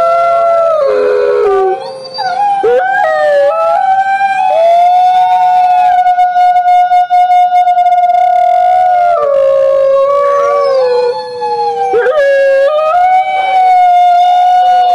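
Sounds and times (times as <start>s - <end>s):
lower howling tone: 0.0s - 14.9s
wolf howling: 0.0s - 14.9s.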